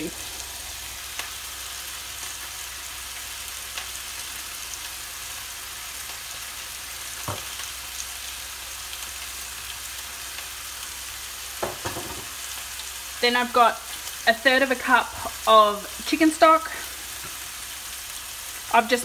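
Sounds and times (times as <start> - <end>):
chicken frying in oil: 0.0 - 19.0.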